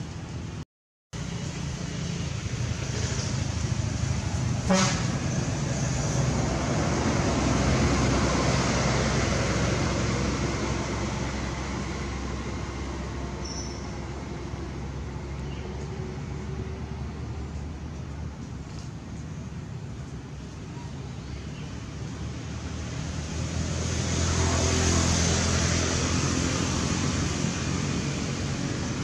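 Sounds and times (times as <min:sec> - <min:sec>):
vehicle passing: 0:01.2 - 0:18.4, 0:21.7 - 0:29.0.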